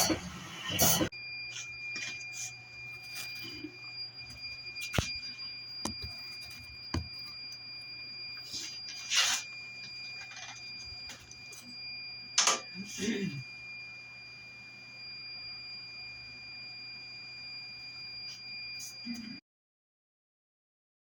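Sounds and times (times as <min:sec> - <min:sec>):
fire alarm tone: 0:00.0 - 0:19.4.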